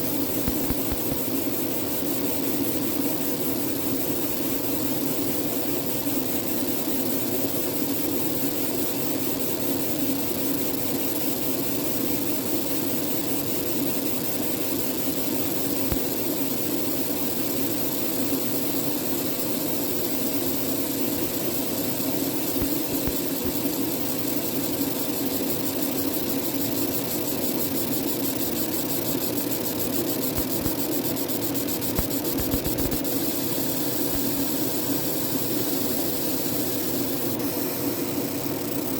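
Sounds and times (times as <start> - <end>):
machine hiss: 0.0 - 11.5, 14.3 - 38.9
laser marking machine humming: 0.0 - 38.9.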